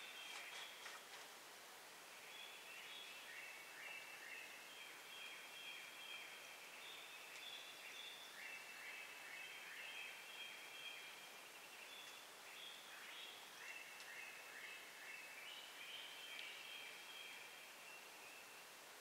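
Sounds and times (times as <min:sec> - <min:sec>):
faint songbird singing: 0:00.0 - 0:01.2, 0:02.0 - 0:19.0.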